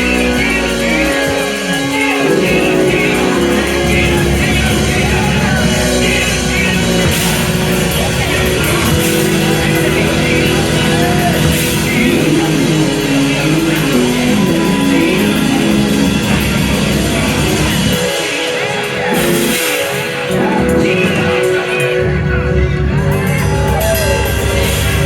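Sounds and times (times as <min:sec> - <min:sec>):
gospel music with singing: 0:00.0 - 0:25.0.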